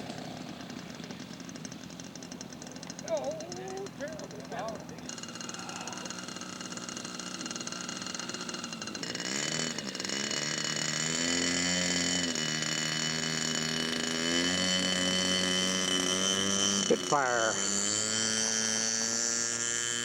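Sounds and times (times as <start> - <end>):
model airplane engine running: 0.0 - 20.0.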